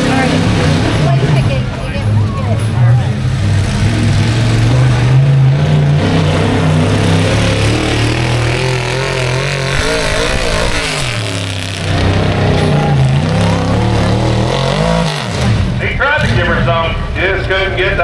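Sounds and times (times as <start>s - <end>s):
truck engine revving under load: 0.0s - 17.4s.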